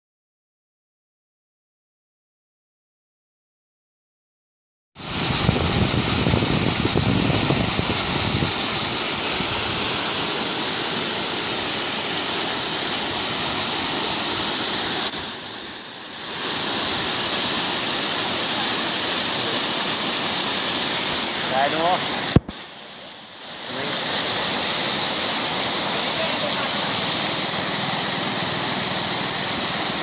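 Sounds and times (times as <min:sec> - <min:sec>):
river white water rushing: 0:05.0 - 0:30.0.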